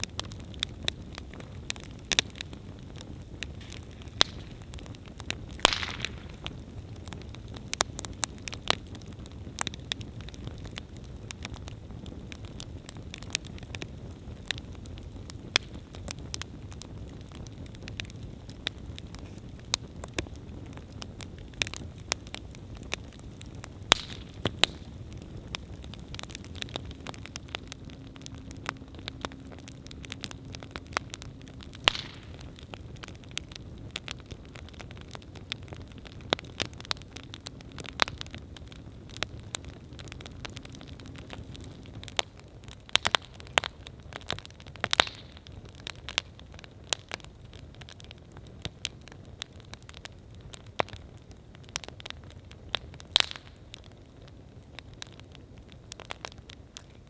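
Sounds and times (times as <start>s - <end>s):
campfire crackling and popping: 0.0s - 57.0s
low rush of flame: 0.0s - 57.0s.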